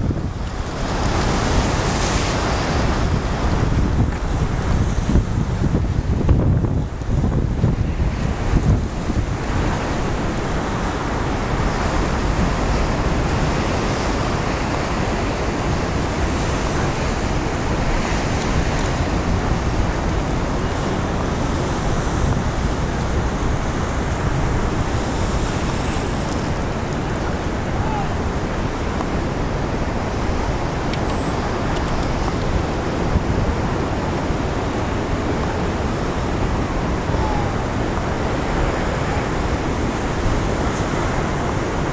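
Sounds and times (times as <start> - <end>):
storm waves breaking: 0.0 - 41.9
wind buffeting microphone: 0.0 - 41.9.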